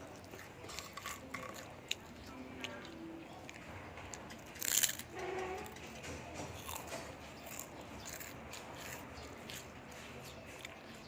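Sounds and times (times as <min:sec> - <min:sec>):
chewing crunchy snack: 0:00.0 - 0:11.0.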